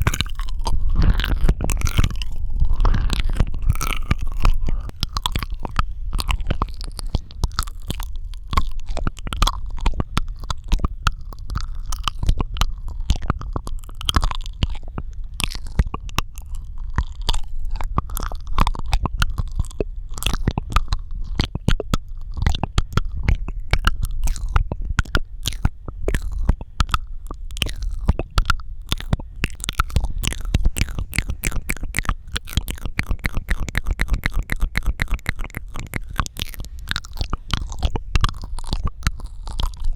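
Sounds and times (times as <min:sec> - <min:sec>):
mouth clicks and pops: 0:00.0 - 0:39.9
steady low rumble: 0:00.0 - 0:39.9.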